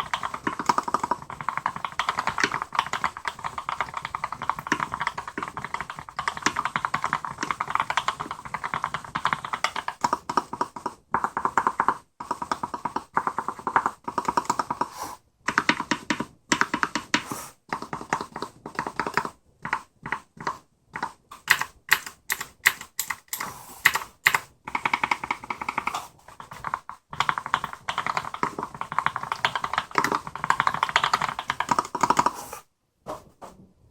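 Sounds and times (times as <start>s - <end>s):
mechanical keyboard typing: 0.0s - 14.9s, 15.5s - 32.4s.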